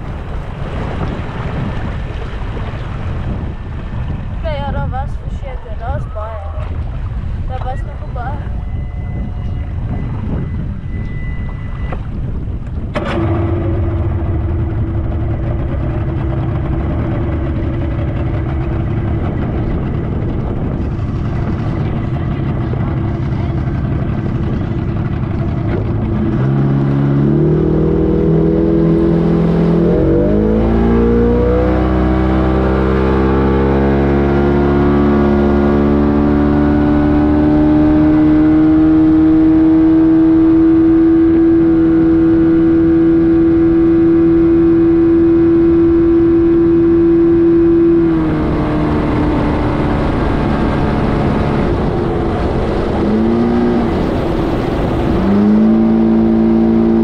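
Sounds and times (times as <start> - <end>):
outboard motor revving: 8.4 - 57.0.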